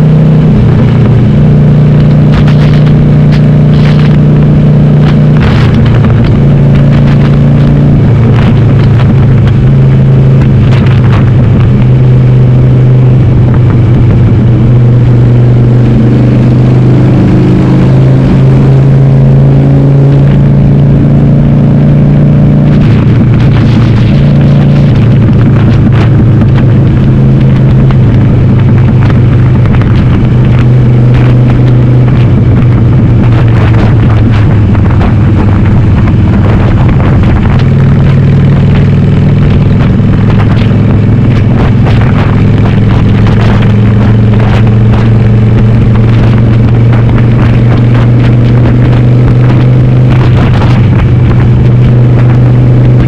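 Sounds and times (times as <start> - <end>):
motorcycle engine running loud: 0.0 - 53.0.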